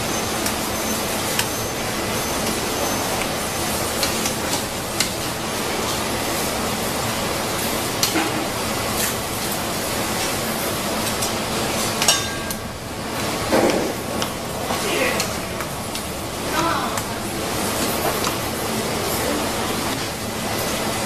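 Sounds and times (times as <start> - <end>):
workshop background noise: 0.0 - 21.0.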